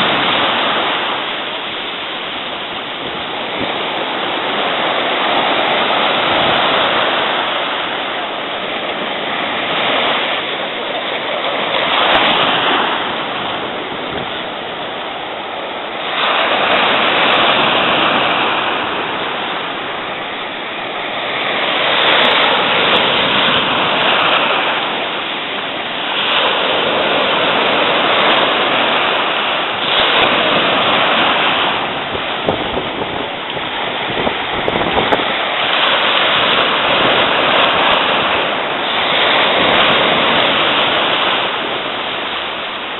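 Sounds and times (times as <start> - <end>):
surf breaking: 0.0 - 42.9.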